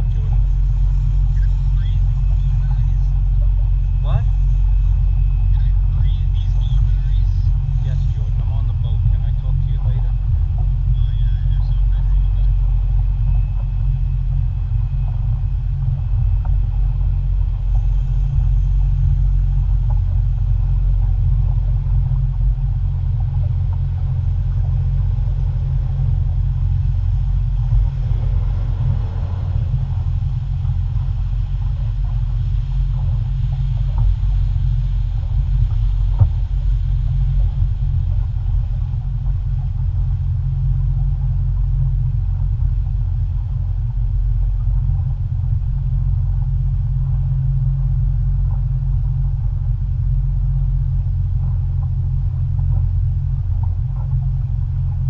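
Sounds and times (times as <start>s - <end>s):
motorboat engine rumble: 0.0s - 55.0s
wind noise: 0.0s - 55.0s.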